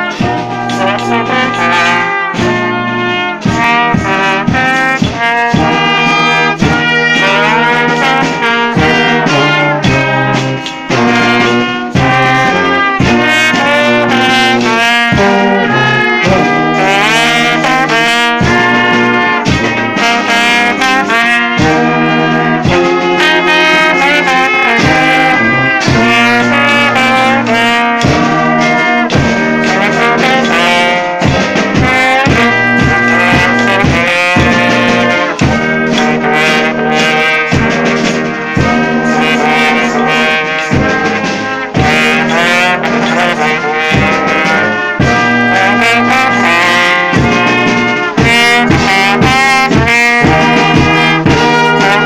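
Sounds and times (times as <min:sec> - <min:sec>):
brass band playing: 0:00.0 - 0:52.0.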